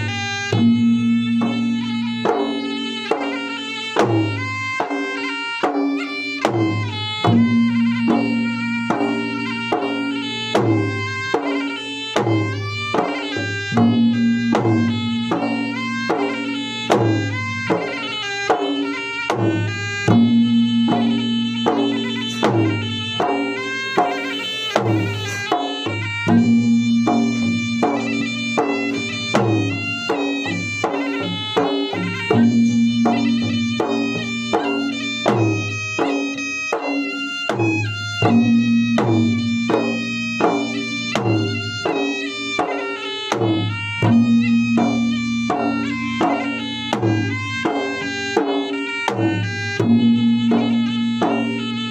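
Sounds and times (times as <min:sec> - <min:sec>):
drum strokes: 0:00.0 - 0:51.9
pitched melody: 0:00.0 - 0:51.9.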